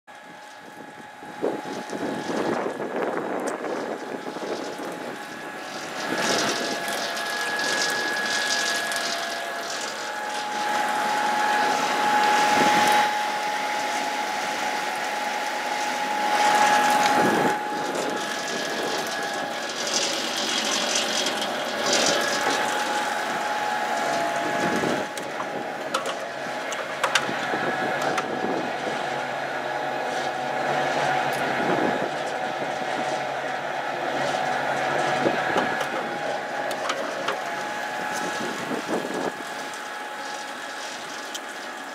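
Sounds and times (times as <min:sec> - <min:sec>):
mixer motor whine: 0:00.1 - 0:41.9.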